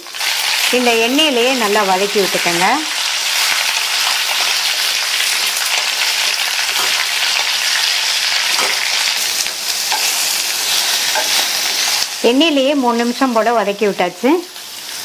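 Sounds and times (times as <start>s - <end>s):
beans sizzling in hot oil: 0.0s - 15.0s.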